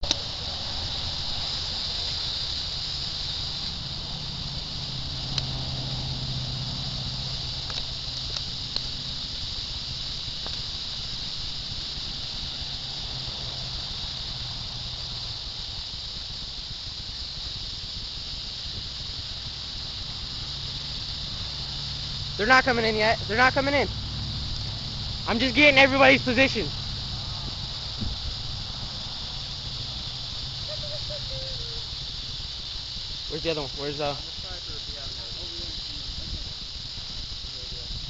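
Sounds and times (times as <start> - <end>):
high-pitched insect drone: 0.0 - 38.0.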